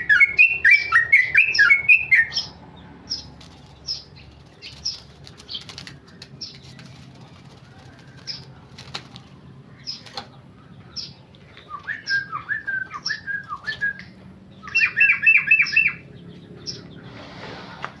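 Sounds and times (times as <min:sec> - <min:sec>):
bird chirping and singing: 0:00.0 - 0:17.2.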